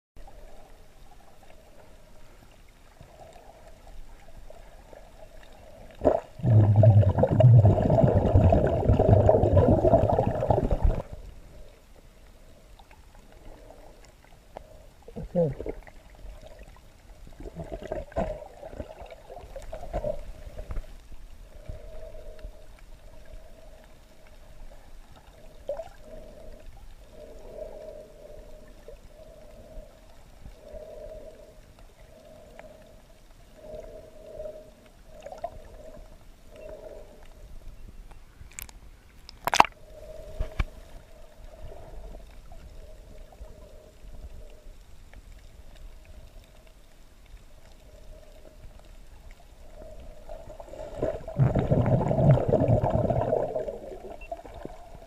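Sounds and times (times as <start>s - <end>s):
underwater gurgling: 0.2s - 37.3s, 39.4s - 55.0s.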